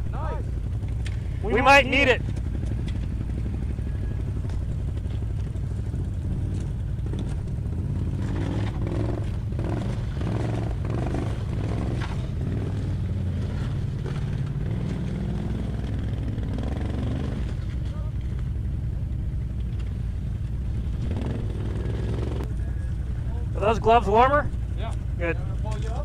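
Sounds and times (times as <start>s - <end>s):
atv engine idling: 0.0s - 26.0s.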